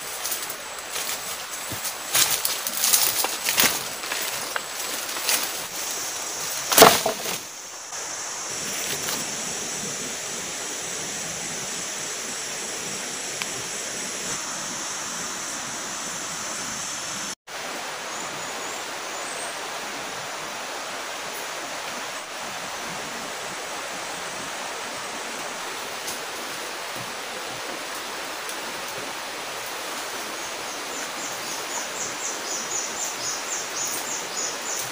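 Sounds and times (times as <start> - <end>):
rushing hiss: 0.0 - 34.9.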